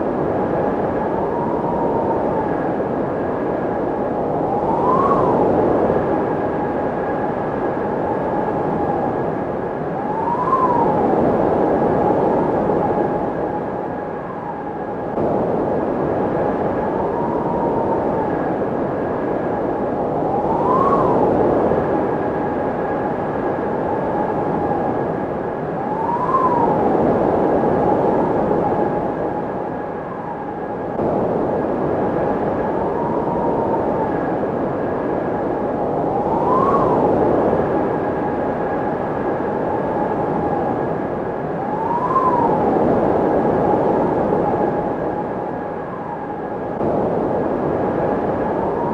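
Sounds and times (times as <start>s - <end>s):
windmill rushing with whine: 0.0s - 48.9s.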